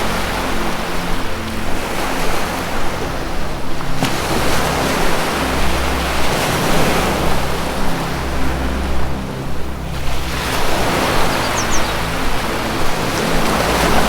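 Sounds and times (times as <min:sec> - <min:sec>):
low music drone: 0:00.0 - 0:14.0
ocean waves washing: 0:00.0 - 0:14.0.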